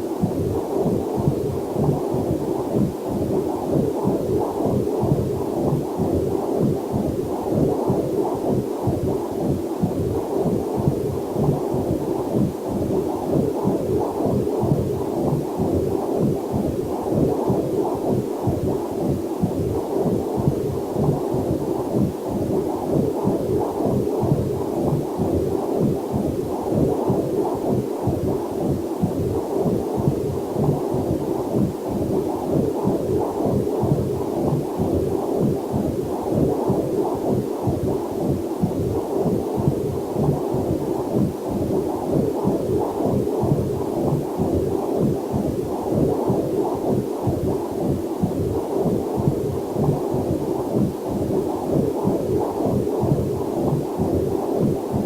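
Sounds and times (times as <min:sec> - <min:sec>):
heart monitor pulsing: 0:00.0 - 0:55.0.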